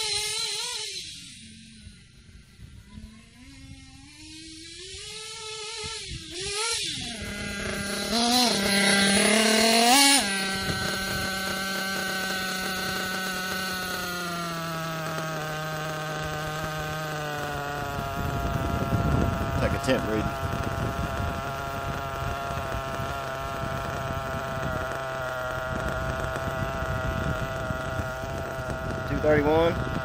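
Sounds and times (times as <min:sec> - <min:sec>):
rc nitro engine revving: 0:00.0 - 0:30.0.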